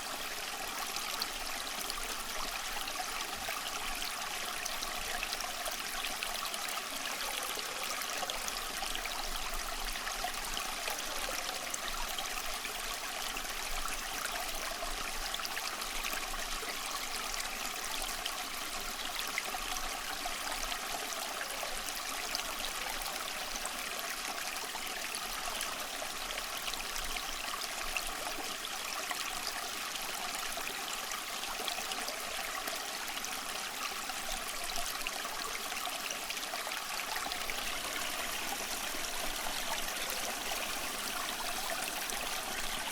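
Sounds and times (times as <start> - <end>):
stream flowing over stones: 0.0 - 42.9.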